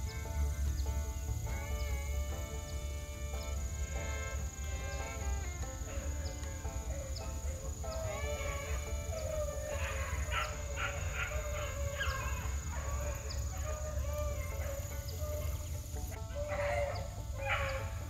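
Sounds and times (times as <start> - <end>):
hounds baying and yelping: 0.0 - 18.0.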